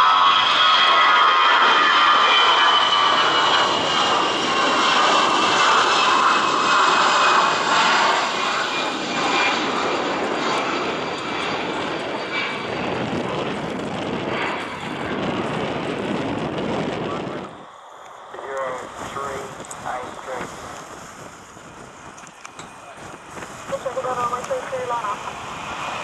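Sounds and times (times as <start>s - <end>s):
jet engine roar with whine: 0.0s - 26.0s.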